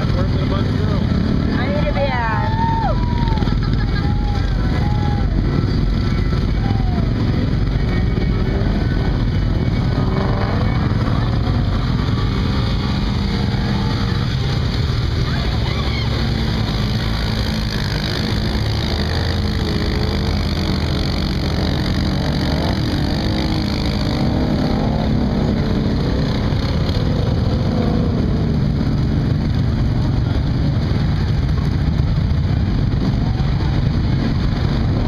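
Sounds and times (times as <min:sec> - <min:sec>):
off-road vehicle engines rumbling: 0:00.0 - 0:35.0.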